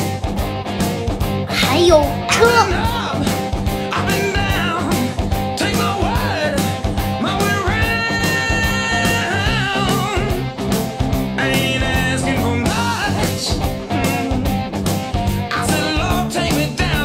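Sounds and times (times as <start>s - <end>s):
upbeat rock song with singing: 0.0s - 17.0s.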